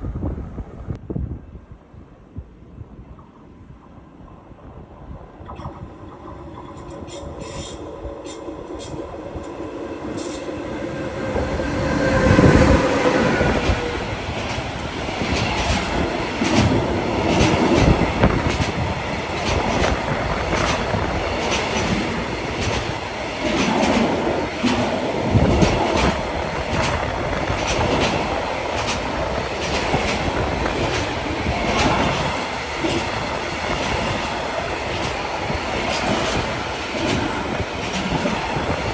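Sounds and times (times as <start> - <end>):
train rumbling past: 3.1 - 38.9
wheels clicking over rail joints: 5.4 - 11.4, 12.0 - 38.9.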